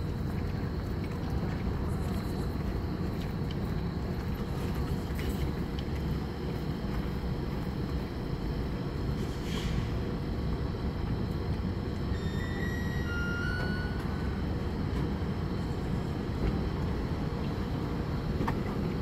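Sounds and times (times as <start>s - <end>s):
train equipment low rumble: 0.0s - 19.0s.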